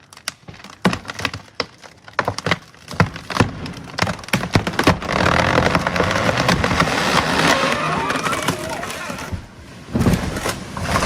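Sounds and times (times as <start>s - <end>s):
wood cracking and splintering: 0.0s - 11.0s.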